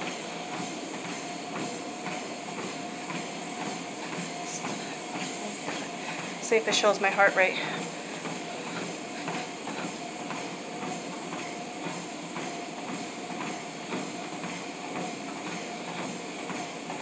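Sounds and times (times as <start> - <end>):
footsteps on treadmill deck: 0.0 - 17.0
treadmill motor and belt whine: 0.0 - 17.0.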